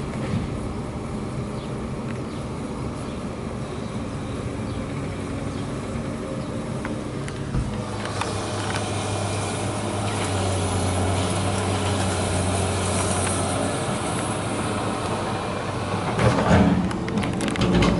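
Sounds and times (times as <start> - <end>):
engine droning: 0.0 - 17.9.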